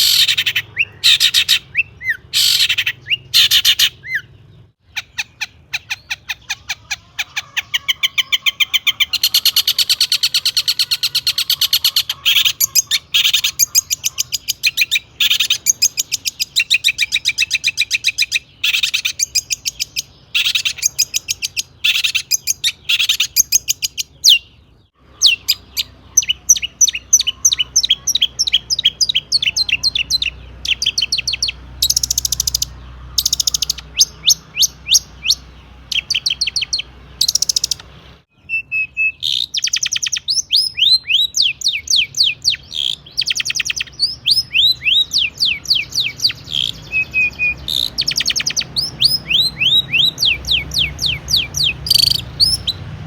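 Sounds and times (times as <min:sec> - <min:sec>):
bird singing chirping trills: 0:00.0 - 0:53.0.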